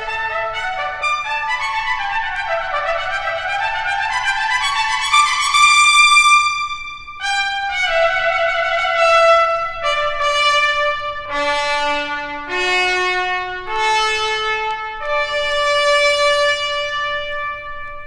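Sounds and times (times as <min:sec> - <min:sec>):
trumpet playing long notes: 0:00.0 - 0:18.0.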